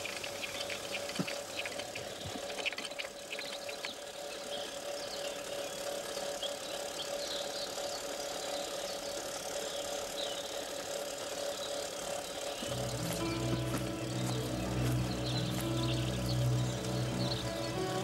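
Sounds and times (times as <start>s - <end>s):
mechanical whirring hum: 0.0s - 17.8s.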